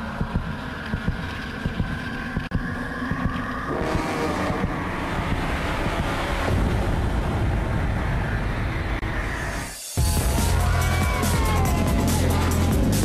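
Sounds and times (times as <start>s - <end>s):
roller coaster running on track: 0.0s - 13.0s.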